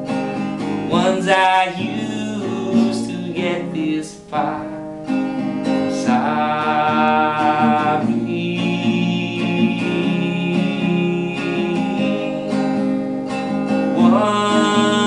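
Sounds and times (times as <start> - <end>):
acoustic guitar strumming: 0.0 - 15.0
man singing: 0.6 - 4.9, 5.7 - 12.8, 13.9 - 15.0.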